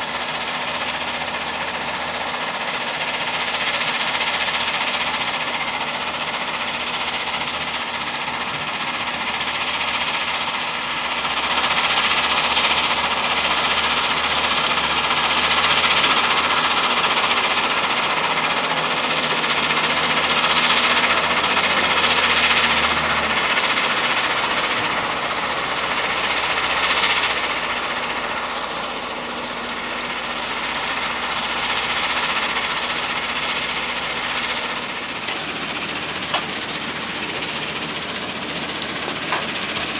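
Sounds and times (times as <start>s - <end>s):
machinery noise: 0.0s - 39.9s
truck diesel engine running: 0.0s - 39.9s.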